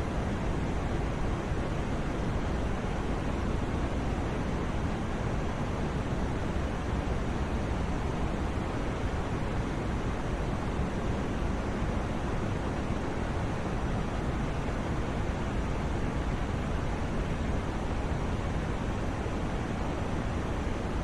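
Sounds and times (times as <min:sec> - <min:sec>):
steady white noise: 0:00.0 - 0:21.0.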